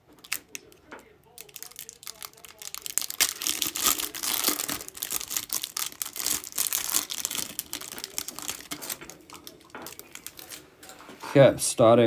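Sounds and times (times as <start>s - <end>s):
wrapper crinkling: 0.1s - 10.7s.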